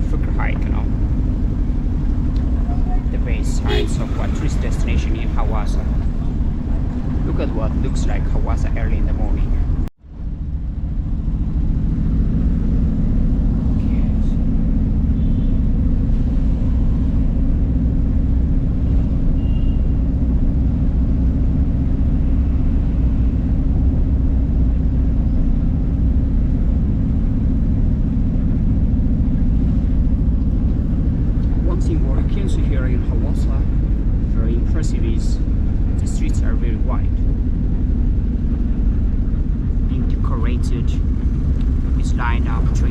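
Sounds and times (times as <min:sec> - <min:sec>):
vehicle interior rumble: 0:00.0 - 0:42.9.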